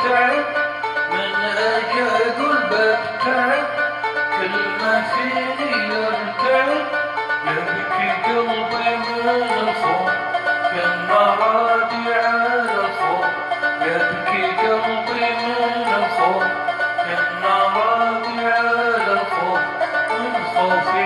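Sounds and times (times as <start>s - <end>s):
arabic-style song with bending melody: 0.0s - 21.0s.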